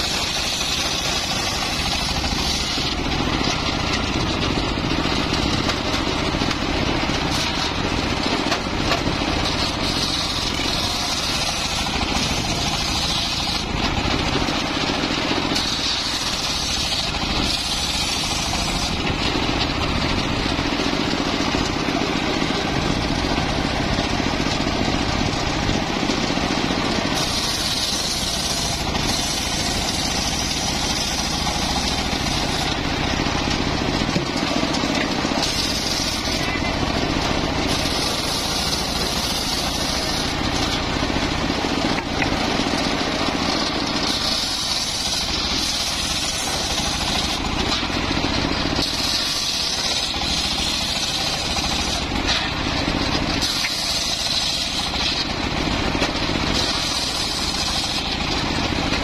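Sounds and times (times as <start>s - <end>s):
engine-driven wood saw running: 0.0s - 59.0s.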